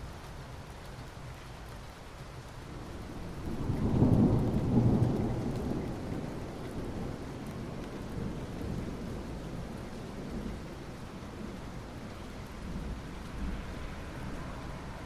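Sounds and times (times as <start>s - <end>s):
rain on asphalt: 0.0s - 15.0s
thunder rumble: 2.7s - 15.0s.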